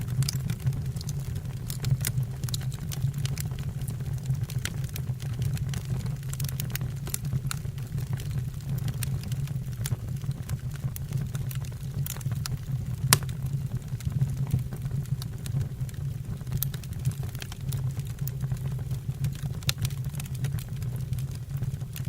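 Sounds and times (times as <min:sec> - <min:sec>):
low rumble of flames: 0:00.0 - 0:22.0
logs crackling and popping: 0:00.1 - 0:22.0.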